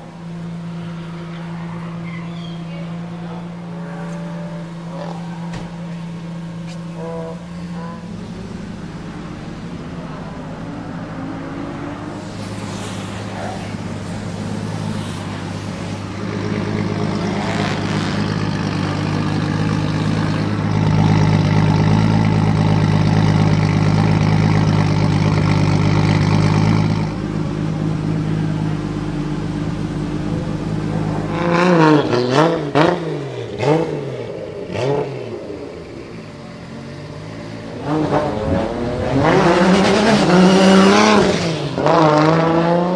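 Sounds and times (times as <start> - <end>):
engine revving: 0.0 - 36.3, 37.0 - 42.9
car engine idling: 0.0 - 42.0.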